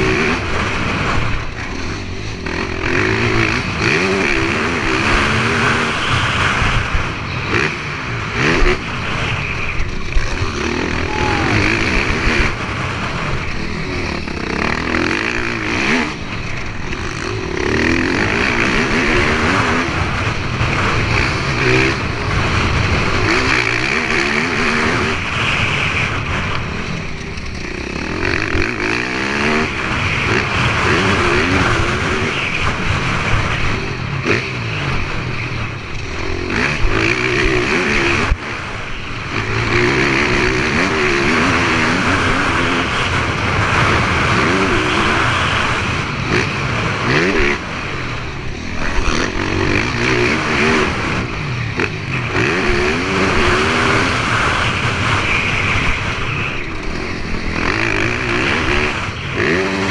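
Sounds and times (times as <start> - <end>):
motocross engine revving: 0.0 - 59.9.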